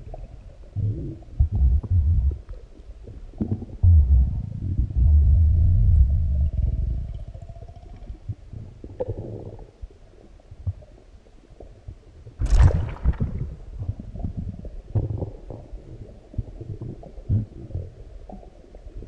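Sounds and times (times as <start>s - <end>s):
stomach growling and gurgling: 0.0s - 19.0s.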